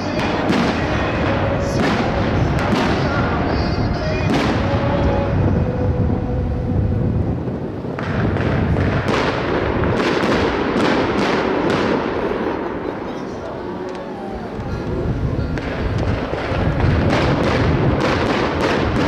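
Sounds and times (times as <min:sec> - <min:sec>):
fireworks bangs and crackle: 0:00.0 - 0:19.0.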